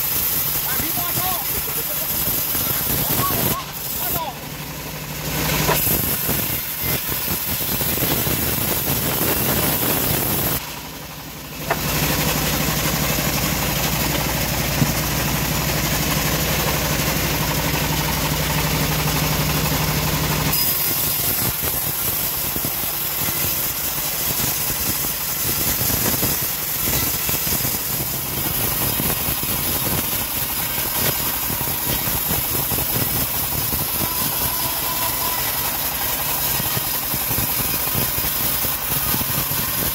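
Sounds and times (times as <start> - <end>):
band sawmill cutting wood: 0.0 - 39.9.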